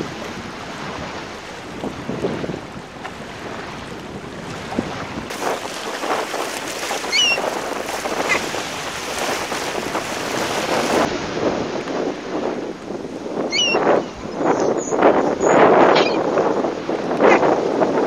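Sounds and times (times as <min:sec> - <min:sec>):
small waves lapping on shore: 0:00.0 - 0:18.0
wind buffeting microphone: 0:00.0 - 0:18.0.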